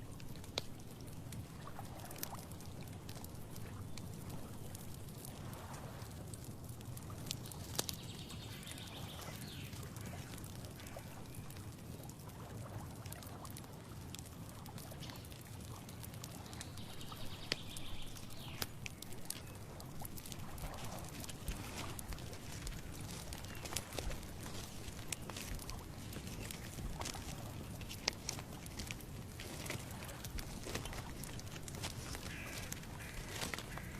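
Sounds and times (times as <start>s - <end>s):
small clicks and rustles: 0.0s - 33.9s.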